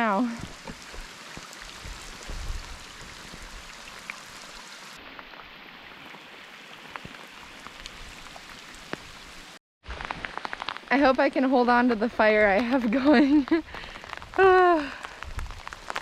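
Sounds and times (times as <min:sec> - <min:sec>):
steady rain hiss: 0:00.0 - 0:05.0, 0:05.6 - 0:16.0
rain ticks: 0:00.2 - 0:04.7, 0:06.1 - 0:09.3, 0:09.9 - 0:16.0.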